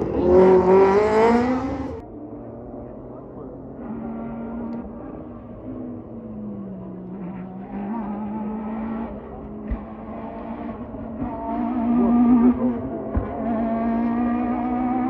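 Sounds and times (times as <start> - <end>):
distant rally car engine: 0.0 - 15.0.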